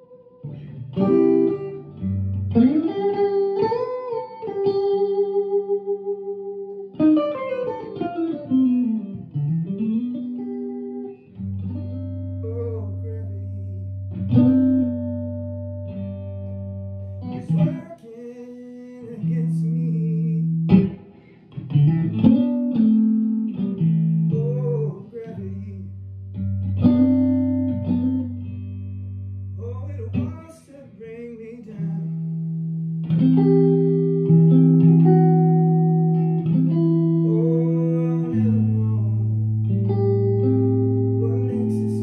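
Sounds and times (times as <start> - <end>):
electric guitar through amps: 0.0 - 42.0.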